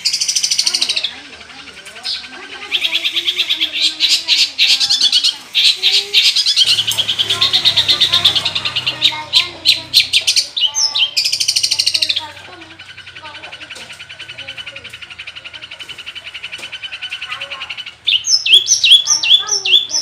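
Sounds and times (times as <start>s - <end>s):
shrike chattering song: 0.0s - 20.0s.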